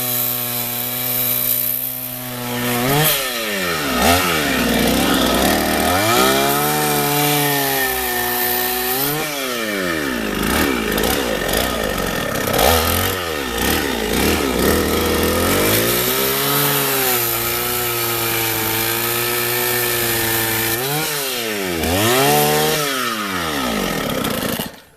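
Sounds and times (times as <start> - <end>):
chainsaw engine revving: 0.0 - 24.9.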